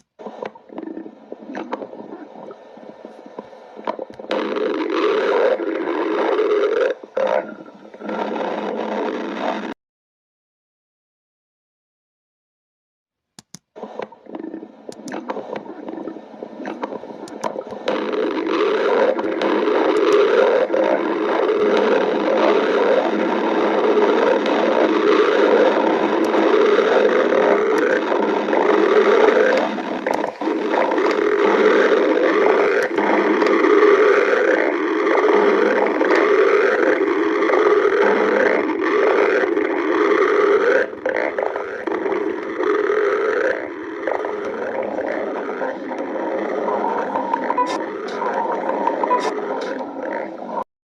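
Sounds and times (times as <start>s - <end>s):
stomach growling: 0.0s - 9.8s, 13.8s - 50.7s.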